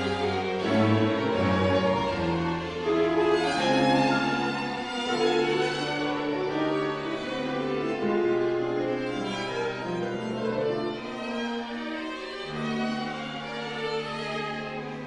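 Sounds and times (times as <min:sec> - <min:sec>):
violins and viola bowed notes: 0:00.0 - 0:15.0.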